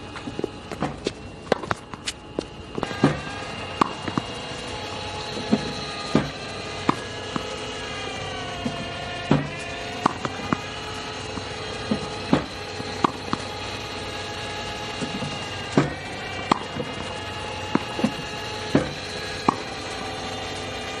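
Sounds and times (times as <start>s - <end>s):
steady hum: 0.0s - 21.0s
balls bouncing on hard court: 0.1s - 20.0s
racket hitting tennis ball: 0.1s - 20.8s
ball machine firing tennis balls: 0.7s - 21.0s.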